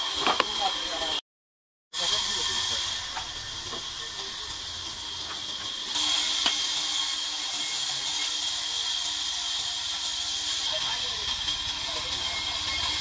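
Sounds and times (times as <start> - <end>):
sawmill machinery whining hiss: 2.0 - 13.0.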